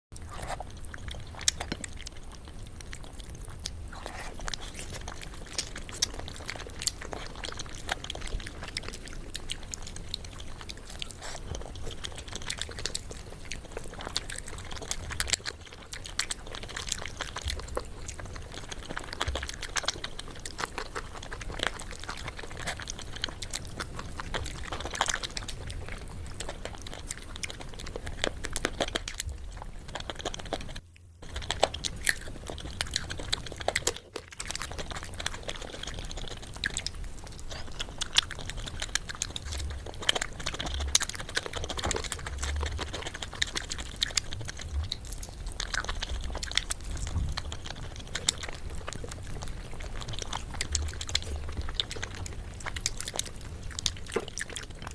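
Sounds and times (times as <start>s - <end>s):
chewing mouth clicks and smacks: 0.2s - 54.9s.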